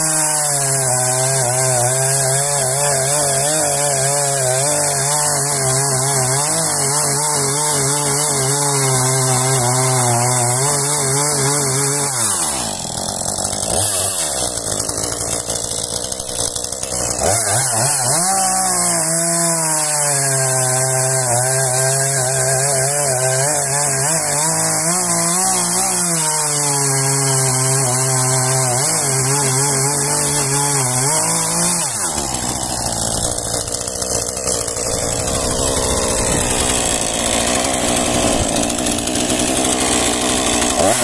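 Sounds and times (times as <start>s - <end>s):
chainsaw cutting a log: 0.0s - 41.0s.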